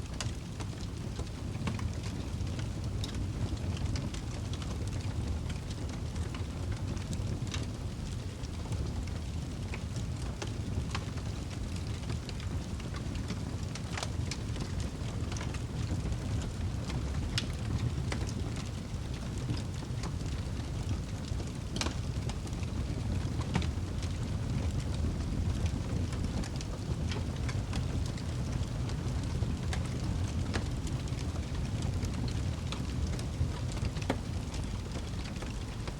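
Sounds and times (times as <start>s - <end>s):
low rumble of flames: 0.0s - 35.9s
wood fire crackling and popping: 0.0s - 35.9s.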